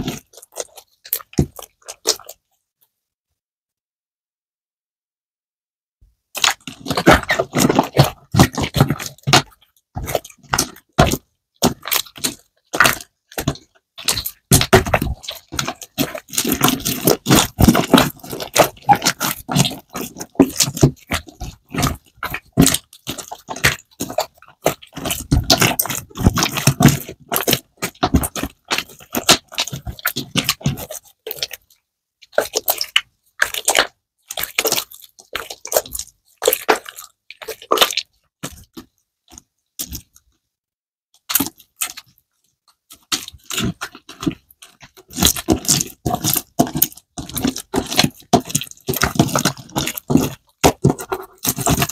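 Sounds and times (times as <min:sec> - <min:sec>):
slime squelching and popping: 0:00.0 - 0:02.5, 0:06.3 - 0:40.4, 0:41.2 - 0:51.9.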